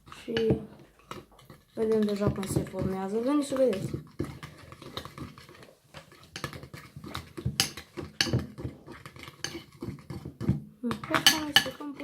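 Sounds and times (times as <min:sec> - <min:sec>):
utensil stirring sticky slime: 0:00.0 - 0:12.0.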